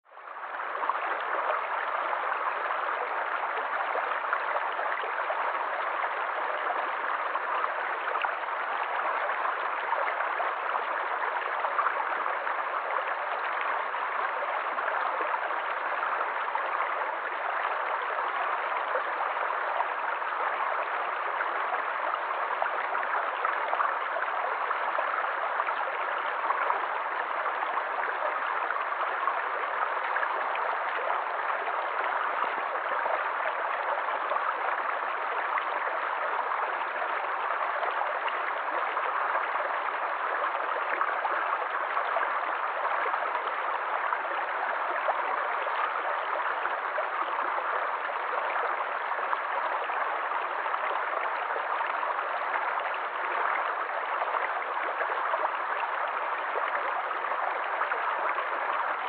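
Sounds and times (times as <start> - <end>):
stream babbling over stones: 0.1 - 59.0.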